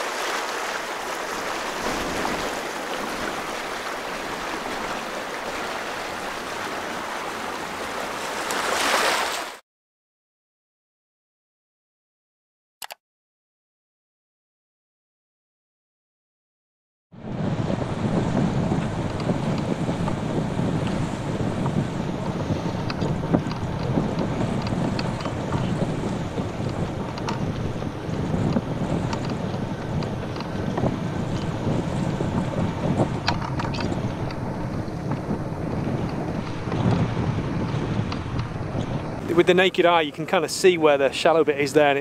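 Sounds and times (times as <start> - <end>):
wind buffeting microphone: 0.0 - 9.3, 17.2 - 42.0.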